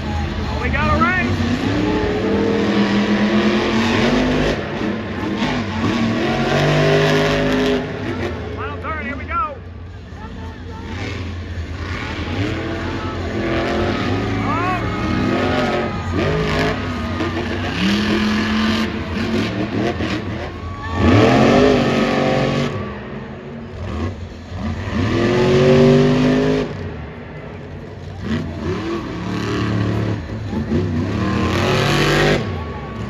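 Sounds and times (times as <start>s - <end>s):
monster truck engines revving: 0.0s - 33.0s.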